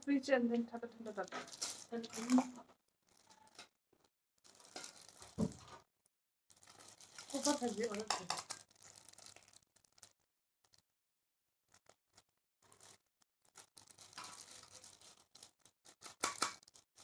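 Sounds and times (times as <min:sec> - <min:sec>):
plastic wrap crinkling: 0:00.7 - 0:03.7, 0:04.4 - 0:05.9, 0:06.5 - 0:10.8, 0:11.7 - 0:17.0.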